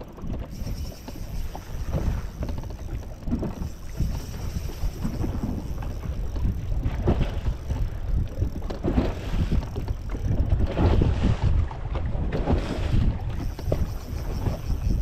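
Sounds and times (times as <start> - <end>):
water slapping against hull: 0.0 - 15.0
wind buffeting microphone: 0.0 - 15.0.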